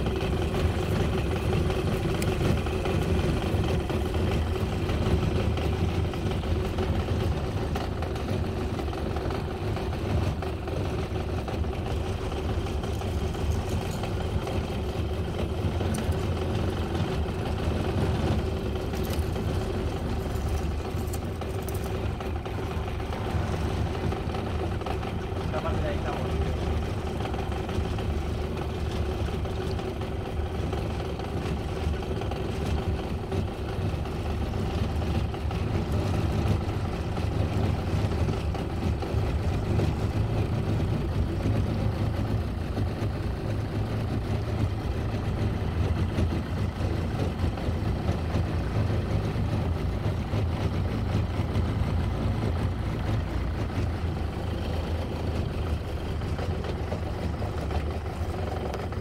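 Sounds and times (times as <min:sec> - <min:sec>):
outboard motor idling: 0:00.0 - 0:59.0.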